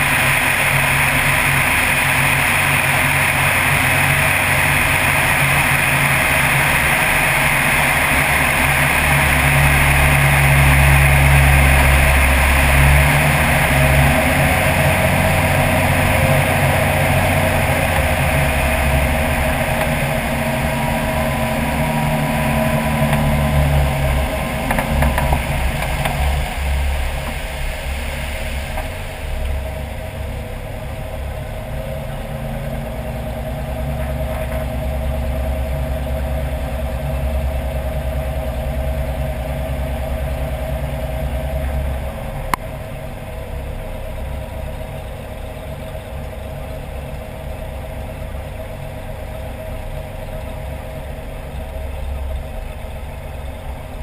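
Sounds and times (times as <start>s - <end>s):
floatplane engine and propeller: 0.0s - 54.0s.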